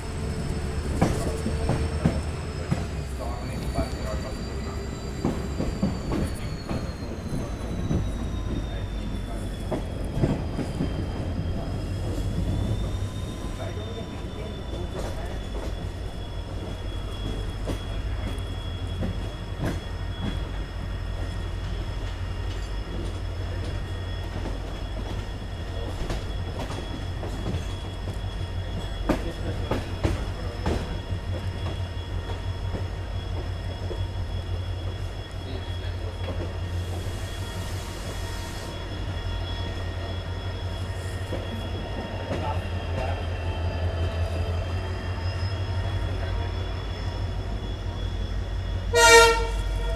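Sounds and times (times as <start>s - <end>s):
diesel locomotive hum: 0.0s - 49.9s
train rumble: 0.0s - 49.9s.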